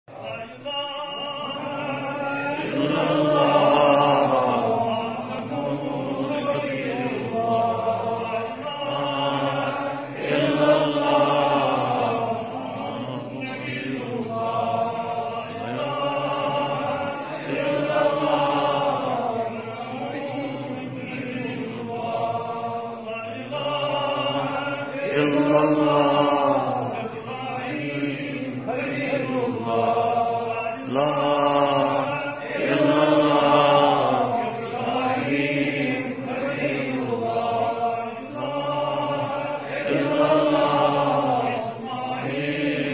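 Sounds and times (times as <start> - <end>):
man chanting: 0.1 - 42.9.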